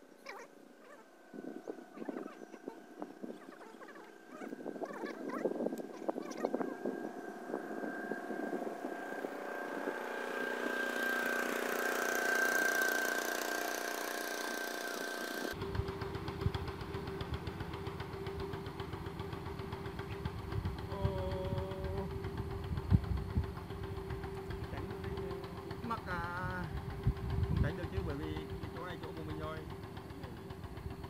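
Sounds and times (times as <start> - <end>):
small boat engine running: 0.0 - 31.0.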